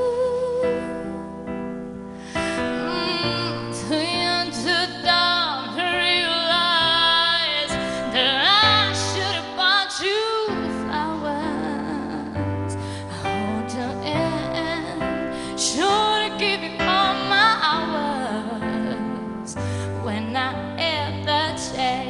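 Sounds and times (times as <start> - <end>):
woman singing: 0.0 - 1.4, 2.3 - 22.0
keyboard chords: 0.0 - 22.0.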